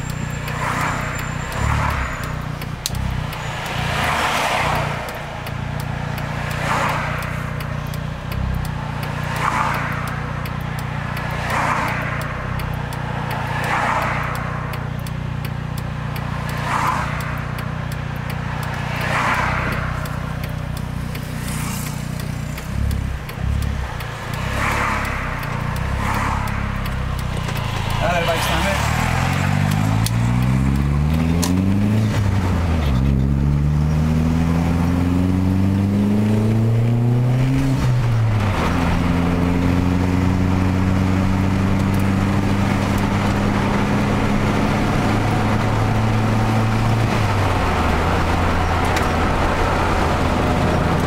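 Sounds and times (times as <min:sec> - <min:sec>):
cars passing by: 0:00.0 - 0:51.0.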